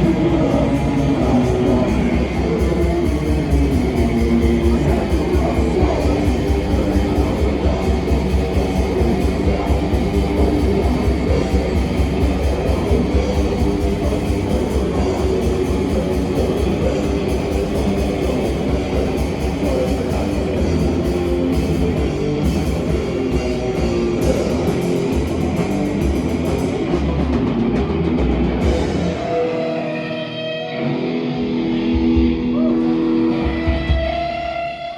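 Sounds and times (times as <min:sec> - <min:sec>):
fast dense drumming: 0:00.0 - 0:29.9
rock band playing live: 0:00.0 - 0:34.9.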